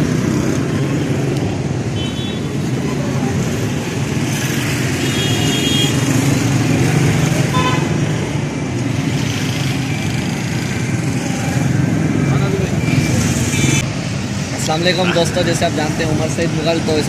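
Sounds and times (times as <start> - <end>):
street traffic passing: 0.0 - 17.0.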